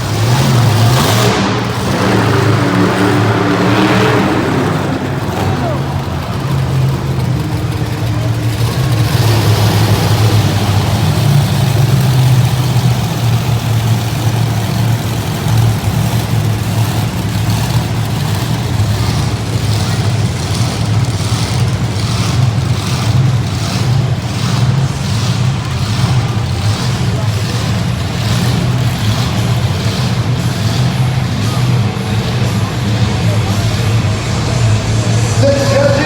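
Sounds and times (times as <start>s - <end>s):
arena crowd noise: 0.0s - 36.0s
monster truck engine running: 0.0s - 36.0s.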